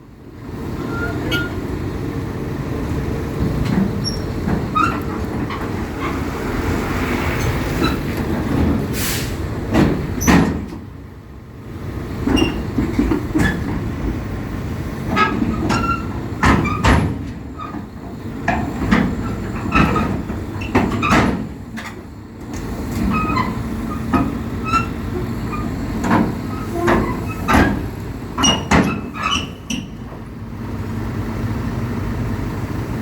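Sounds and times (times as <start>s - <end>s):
excavator engine: 0.0s - 33.0s
metal tracks clanking and squeaking: 0.6s - 33.0s.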